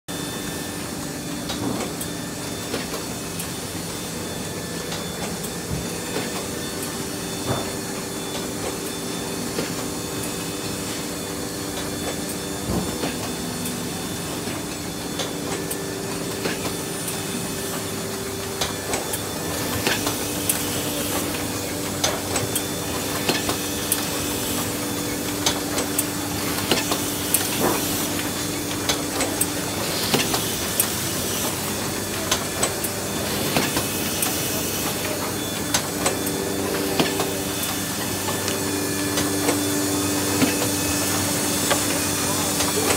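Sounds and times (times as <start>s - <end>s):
machine humming: 0.1s - 42.9s.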